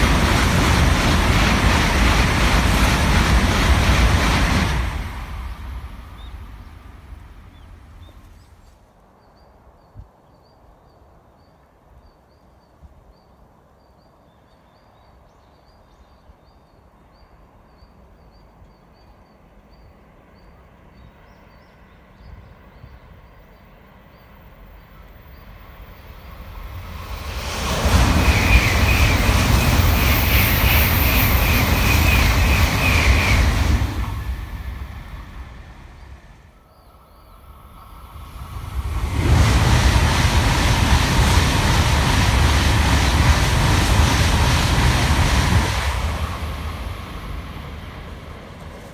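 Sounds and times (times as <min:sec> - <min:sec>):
high-speed train passing: 0:00.0 - 0:08.8, 0:16.8 - 0:48.9.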